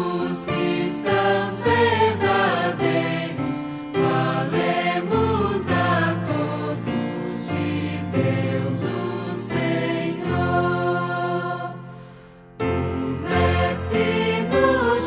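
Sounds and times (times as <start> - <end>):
instrumental hymn music: 0.0 - 15.0.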